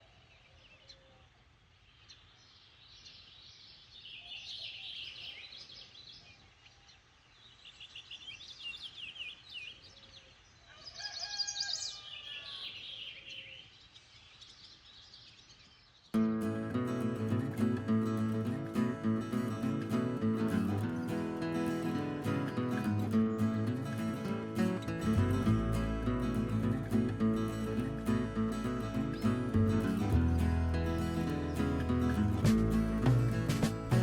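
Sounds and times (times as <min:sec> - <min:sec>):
birds chirping and singing: 0:01.9 - 0:34.0.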